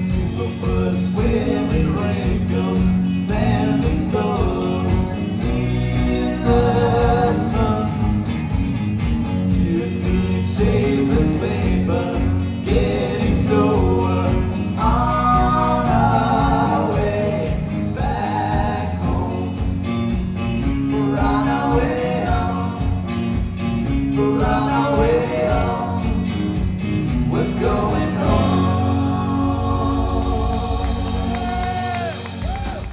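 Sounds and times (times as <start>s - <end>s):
person singing: 0.0s - 8.3s, 9.5s - 19.8s, 20.8s - 23.0s, 24.1s - 26.2s, 27.3s - 32.9s
live rock band playing: 0.0s - 32.9s.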